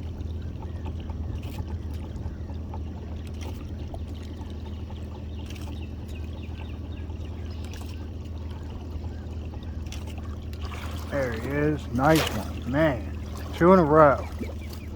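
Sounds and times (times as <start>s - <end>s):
boat motor running: 0.0s - 14.9s
water trickling and splashing: 0.0s - 14.9s.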